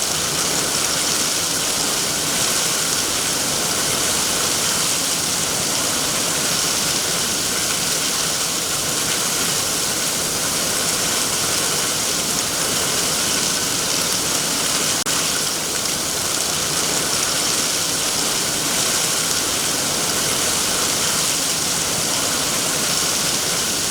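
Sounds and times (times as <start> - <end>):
heavy rain on trees: 0.0 - 23.9.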